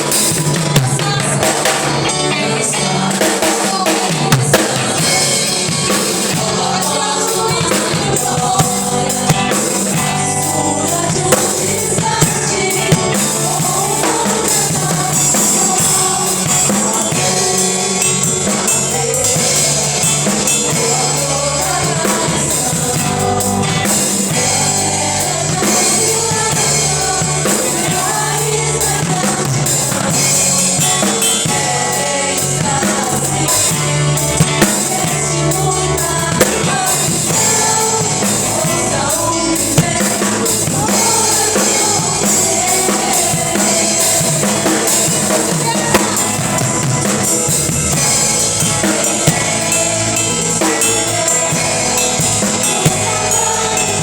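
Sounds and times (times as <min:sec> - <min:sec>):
bass guitar: 0:00.0 - 0:54.0
drum kit: 0:00.0 - 0:54.0
voices singing: 0:00.0 - 0:54.0.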